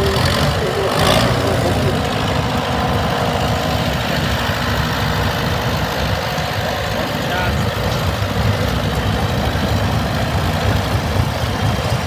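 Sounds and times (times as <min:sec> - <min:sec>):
tractor engines running: 0:00.0 - 0:12.0.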